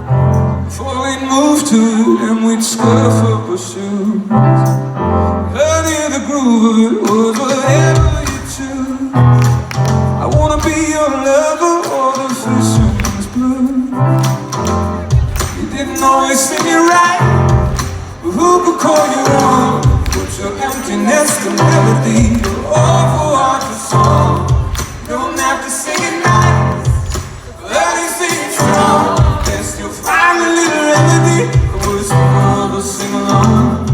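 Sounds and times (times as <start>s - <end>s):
man singing: 0.6s - 33.9s
live band playing: 6.7s - 33.9s.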